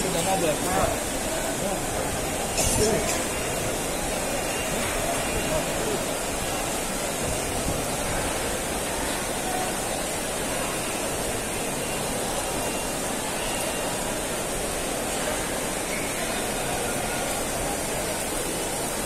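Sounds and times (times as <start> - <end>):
rain on pavement: 0.0 - 19.0.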